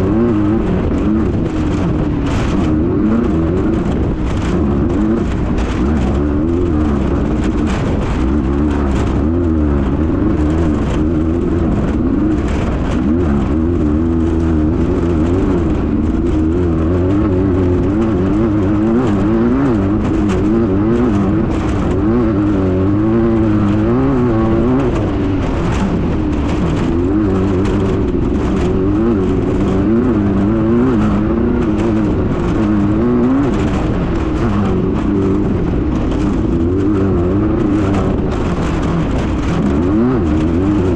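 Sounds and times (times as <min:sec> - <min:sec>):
buggy engine revving: 0:00.0 - 0:40.9
rattles and knocks: 0:00.0 - 0:40.9.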